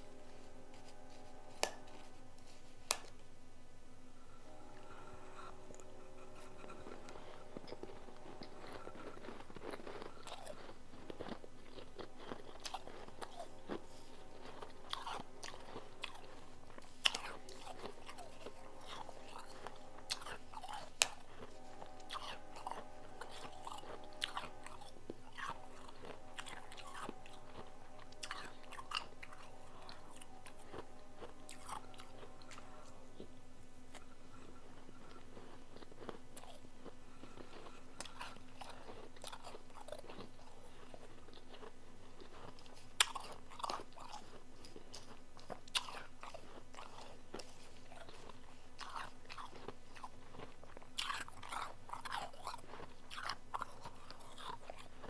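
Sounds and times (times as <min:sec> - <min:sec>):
faint steady hum: 0:00.0 - 0:55.0
crunchy ice chewing: 0:00.7 - 0:03.2, 0:04.5 - 0:55.0.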